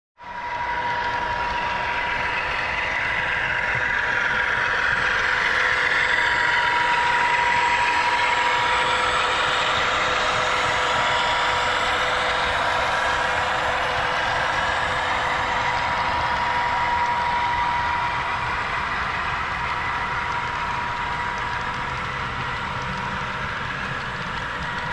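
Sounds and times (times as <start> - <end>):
model train diesel engine sound: 0.2 - 24.9.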